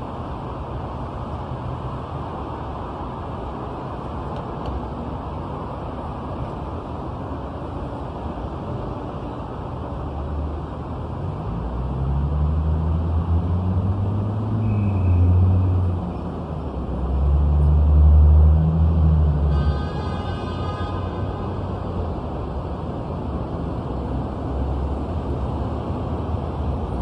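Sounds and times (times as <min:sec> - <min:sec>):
hum of passing cars: 0:00.0 - 0:27.0
vehicle engine drone: 0:00.0 - 0:27.0.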